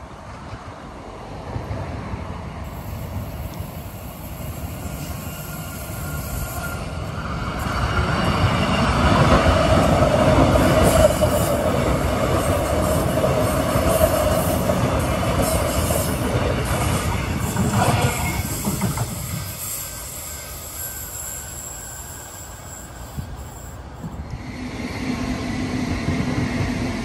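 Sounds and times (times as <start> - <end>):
train running close by: 0.0 - 27.0.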